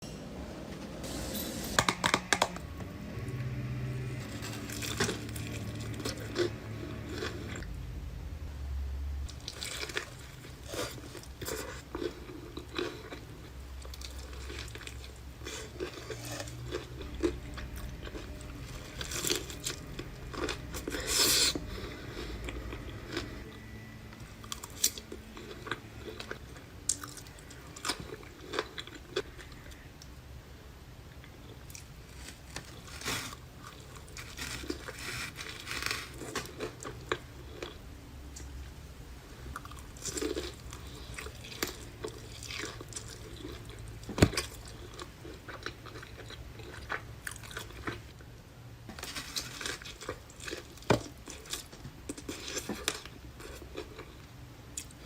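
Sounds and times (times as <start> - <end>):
chewing crunchy food: 4.2 - 7.8, 9.3 - 30.1, 31.2 - 38.5, 39.4 - 48.3, 48.9 - 55.0.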